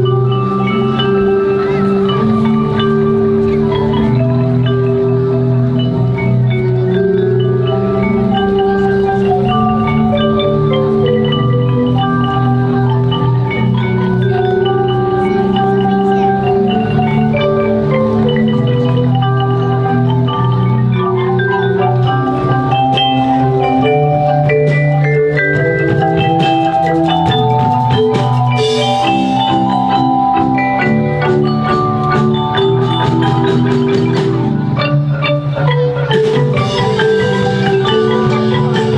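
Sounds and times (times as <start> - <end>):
marimba ensemble playing: 0.0 - 38.9.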